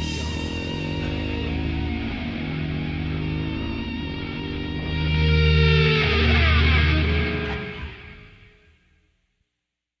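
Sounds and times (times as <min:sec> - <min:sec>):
music: 0:00.0 - 0:09.8.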